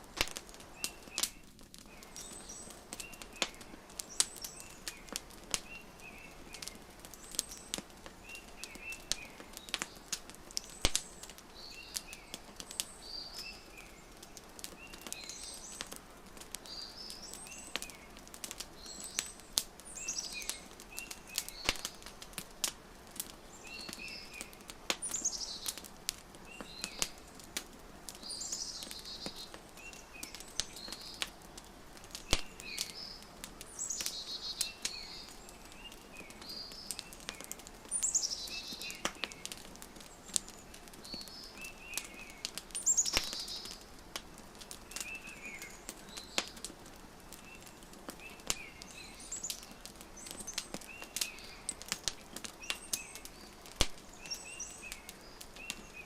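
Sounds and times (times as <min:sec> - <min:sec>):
small birds chirping: 0:00.0 - 0:56.0
wood fire crackling: 0:00.0 - 0:56.0.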